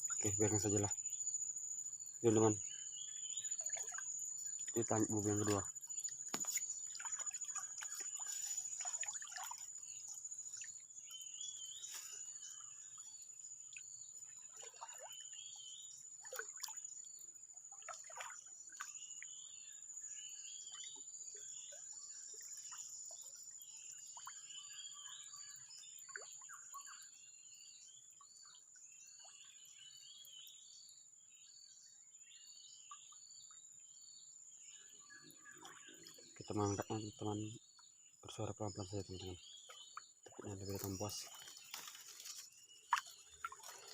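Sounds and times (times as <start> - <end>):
small splashes and drips: 3.2 - 19.6, 20.6 - 30.8, 34.7 - 43.9.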